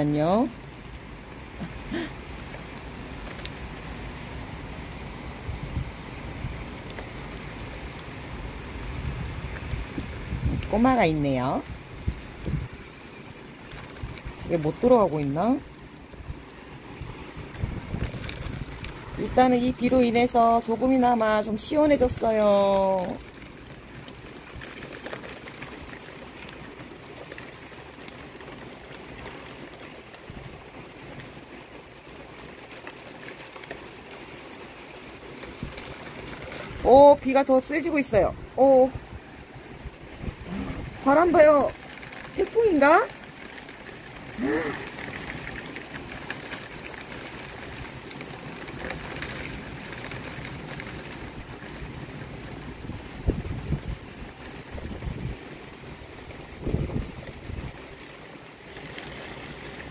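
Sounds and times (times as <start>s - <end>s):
heavy rain pouring: 0.0s - 59.9s
raindrops ticking on surfaces: 0.0s - 59.9s.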